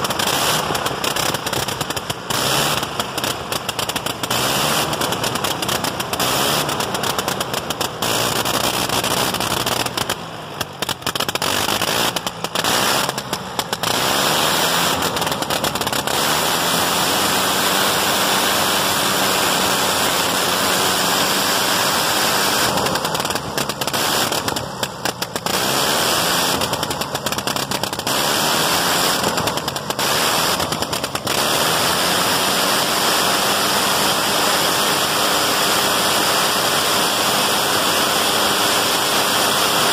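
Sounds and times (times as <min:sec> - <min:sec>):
aircraft engine crackling exhaust: 0:00.0 - 0:39.9.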